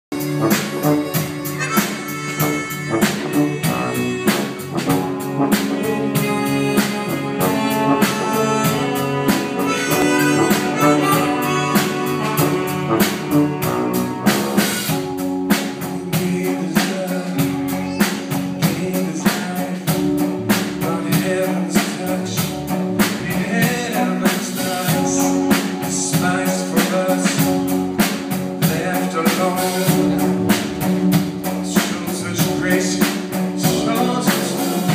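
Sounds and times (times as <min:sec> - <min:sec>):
steady drum beat: 0:00.1 - 0:34.9
worship band playing: 0:00.1 - 0:34.9.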